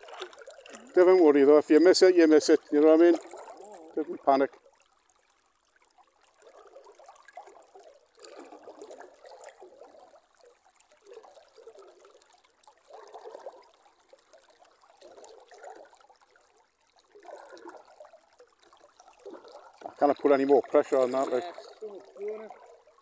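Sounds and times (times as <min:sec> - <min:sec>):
river water gurgling and lapping: 0:00.0 - 0:23.0.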